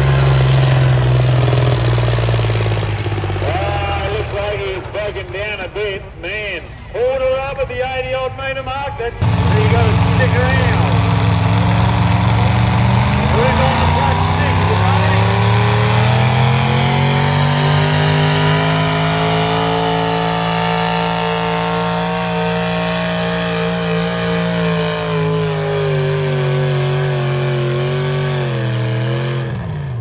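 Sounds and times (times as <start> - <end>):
tractor engine running hard: 0.0 - 7.1, 9.2 - 30.0.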